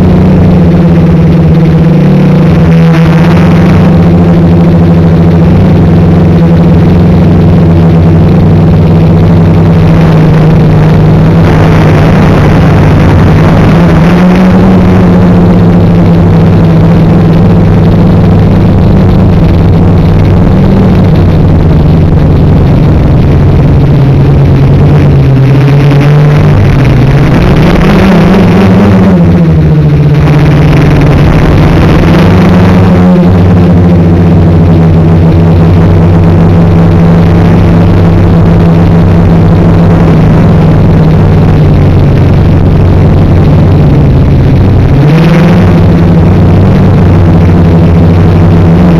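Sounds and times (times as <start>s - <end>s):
drone motors and propellers whining: 0.0s - 48.9s.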